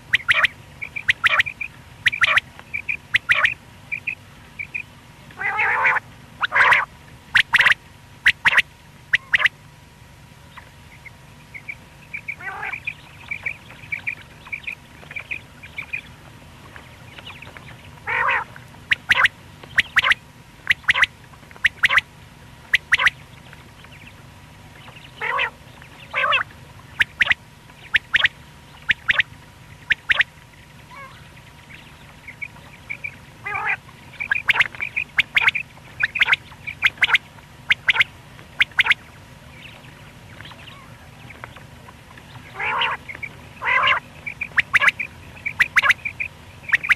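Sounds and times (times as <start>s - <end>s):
quail calling: 0.0s - 9.6s, 10.5s - 16.1s, 17.1s - 22.1s, 22.7s - 23.2s, 24.8s - 30.3s, 30.9s - 41.5s, 42.3s - 46.9s
faint steady hum: 0.0s - 46.9s.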